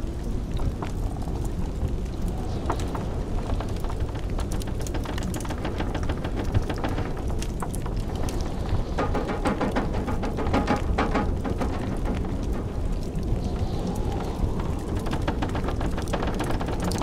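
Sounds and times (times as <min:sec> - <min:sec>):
blizzard wind: 0:00.0 - 0:17.0
wood fire crackling and popping: 0:00.0 - 0:17.0.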